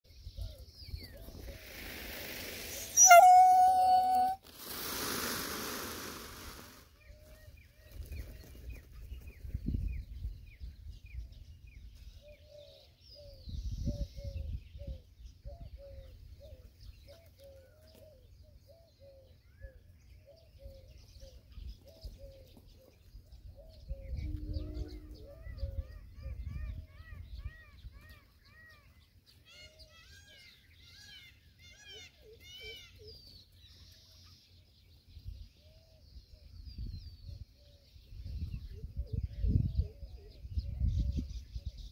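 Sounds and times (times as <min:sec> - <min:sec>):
birds chirping: 0:00.1 - 0:04.4, 0:06.8 - 0:41.9.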